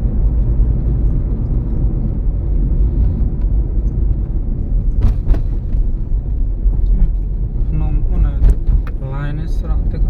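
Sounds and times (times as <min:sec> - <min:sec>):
road and tyre rumble: 0:00.0 - 0:10.0.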